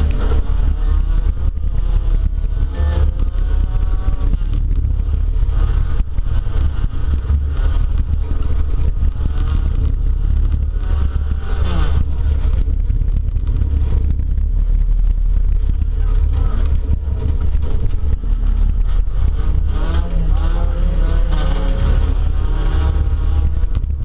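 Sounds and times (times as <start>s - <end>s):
car engine revving: 0.0s - 24.0s
heavy low rumble: 0.0s - 24.0s.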